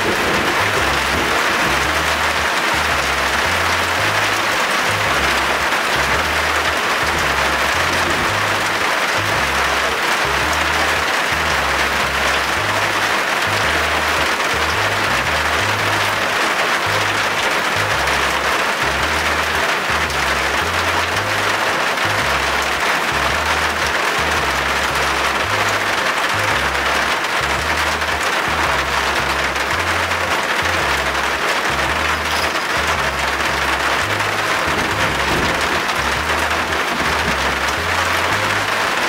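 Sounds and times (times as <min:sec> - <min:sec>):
heavy rain hissing: 0:00.0 - 0:39.0
music with slow bass line: 0:00.0 - 0:39.0.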